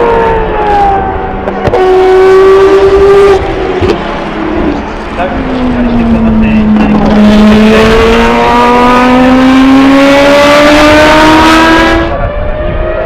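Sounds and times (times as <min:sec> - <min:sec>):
rotary race car engine at full throttle: 0:00.0 - 0:13.0.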